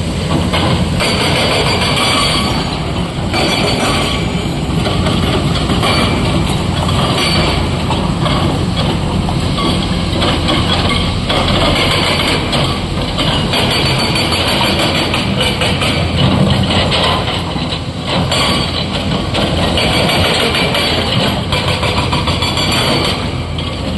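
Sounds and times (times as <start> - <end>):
excavator diesel engines: 0.0 - 23.9
hydraulic breaker hammering stone: 0.3 - 23.9.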